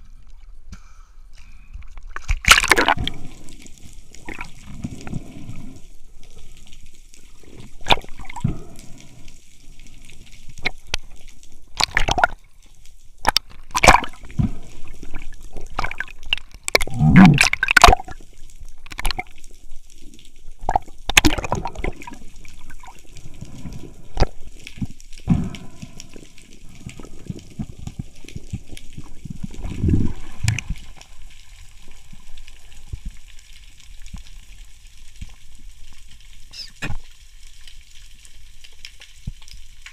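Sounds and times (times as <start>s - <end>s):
water sloshing and gurgling: 1.3s - 39.9s.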